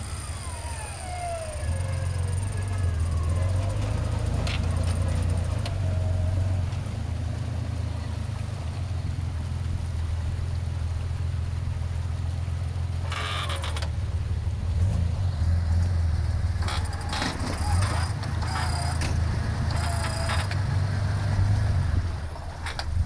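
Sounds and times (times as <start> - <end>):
engine running at low revs: 0.0 - 23.0
rasping engine noise: 0.0 - 23.0.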